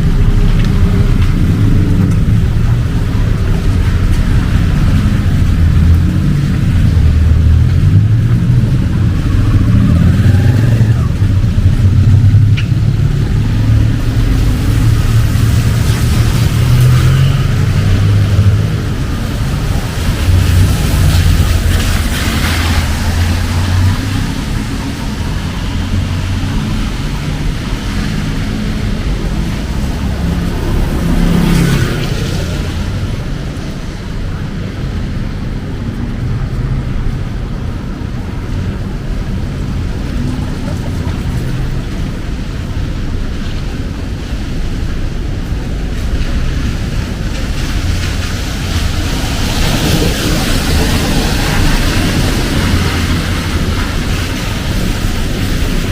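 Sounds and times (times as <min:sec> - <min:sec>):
car traffic passing: 0:00.0 - 0:55.9
heavy rain on street: 0:00.0 - 0:55.9.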